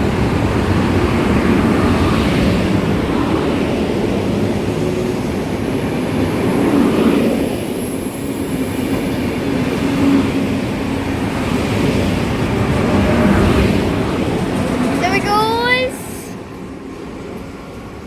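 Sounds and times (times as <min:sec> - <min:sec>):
train running noise: 0:00.0 - 0:18.0.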